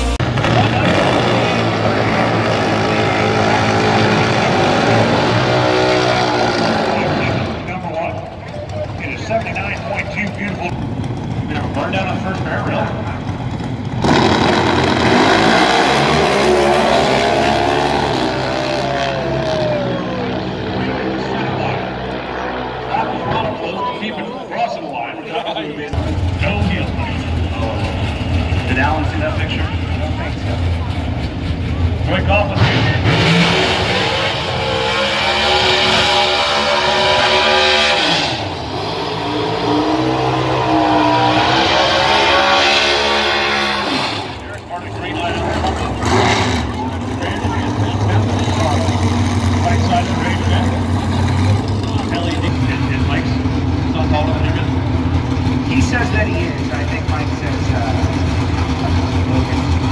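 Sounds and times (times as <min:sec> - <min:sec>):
motorcycles racing at full throttle: 0:00.0 - 0:59.9.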